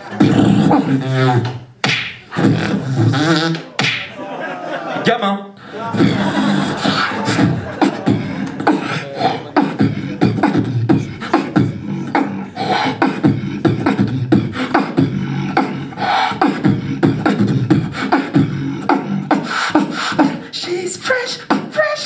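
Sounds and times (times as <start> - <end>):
person beatboxing: 0.0 - 4.2, 5.6 - 22.0.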